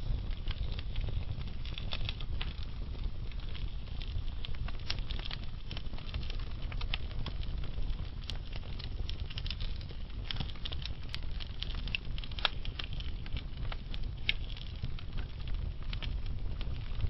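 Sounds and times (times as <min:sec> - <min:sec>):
burning logs crackling: 0:00.0 - 0:17.0.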